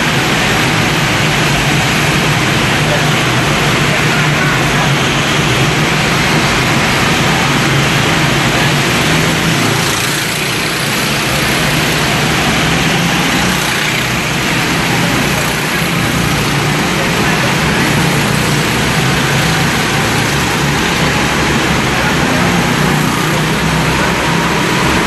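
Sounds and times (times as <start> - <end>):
go-kart engines droning: 0.0 - 25.0.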